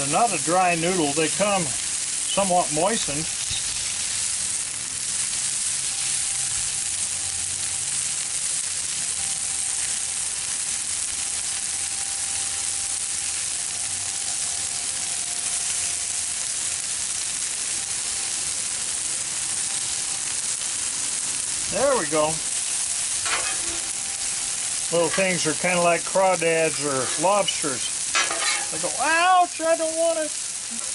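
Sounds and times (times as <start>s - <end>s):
stir-fry sizzling on a griddle: 0.0s - 30.9s.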